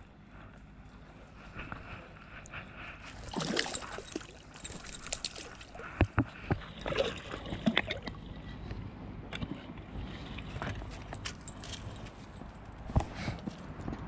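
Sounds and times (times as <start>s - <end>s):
water splashing and sloshing: 1.1s - 12.8s.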